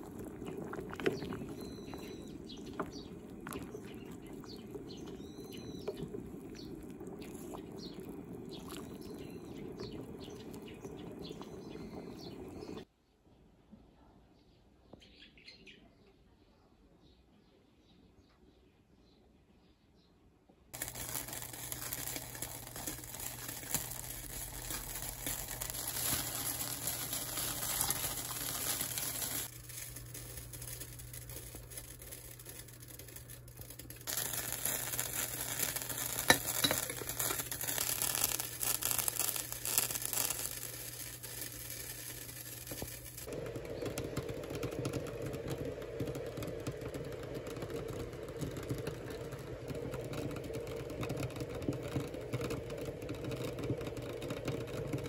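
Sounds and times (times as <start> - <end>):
kettle water crackling and hissing: 0.0 - 12.9, 20.8 - 55.0
water bubbling at a boil: 0.0 - 12.9, 20.8 - 55.0.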